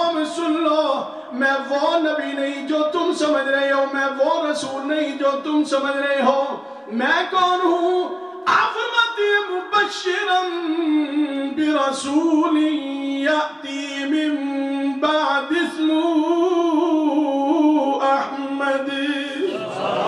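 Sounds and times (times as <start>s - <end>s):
man chanting into microphone: 0.0s - 19.6s.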